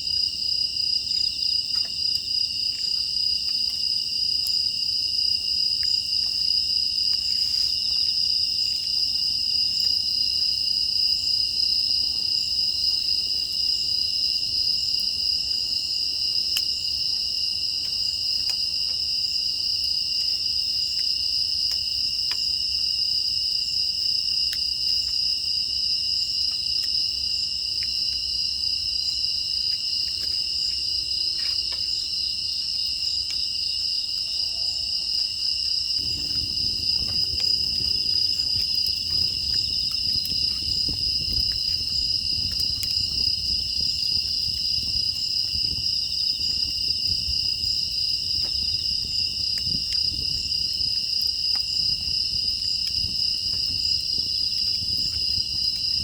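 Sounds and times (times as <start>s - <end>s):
wood fire crackling: 0.0s - 34.2s, 35.0s - 56.0s
crickets trilling: 0.0s - 56.0s.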